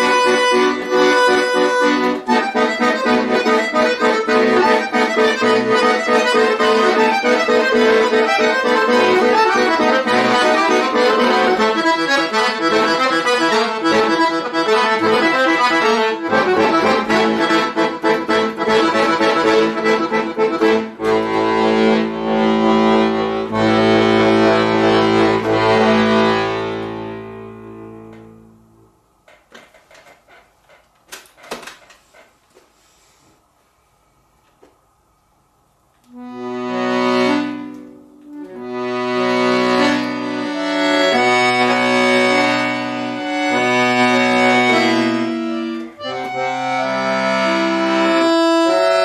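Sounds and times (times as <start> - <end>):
accordion playing solo: 0.0 - 28.8, 36.0 - 49.0.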